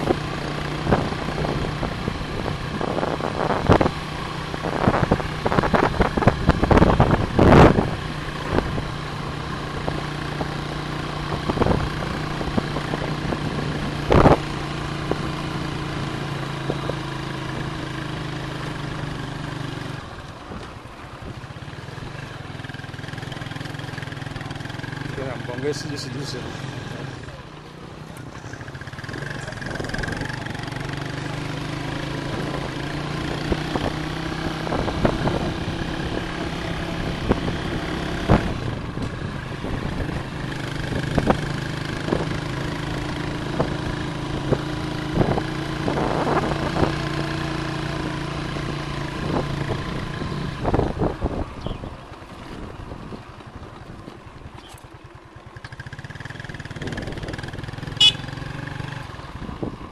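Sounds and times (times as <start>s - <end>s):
knocks and rattles on rough road: 0.0s - 59.9s
motorcycle engine running: 0.0s - 59.9s.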